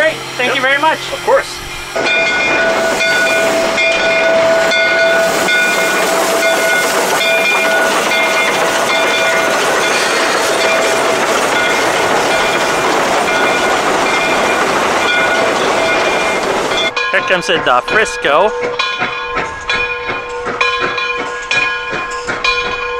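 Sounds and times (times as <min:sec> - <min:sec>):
high tones: 0:00.0 - 0:22.9
steam locomotive hissing: 0:00.0 - 0:22.9.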